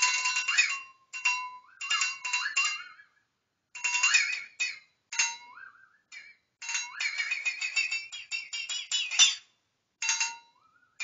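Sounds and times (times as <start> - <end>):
flexatone rattling: 0.0 - 3.2, 3.8 - 10.8.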